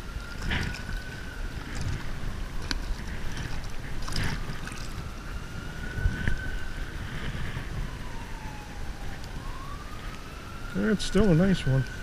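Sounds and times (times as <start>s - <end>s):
distant siren wailing: 0.0s - 12.0s
wind buffeting microphone: 0.0s - 12.0s.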